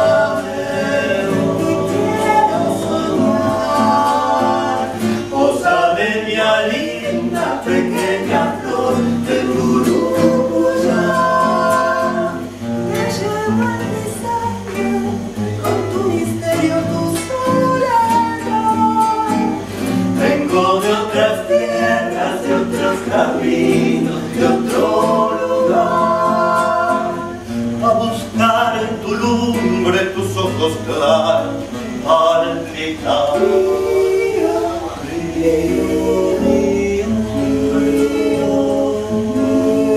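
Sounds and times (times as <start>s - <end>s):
acoustic guitar: 0.0s - 39.9s
voices singing together: 0.0s - 39.9s.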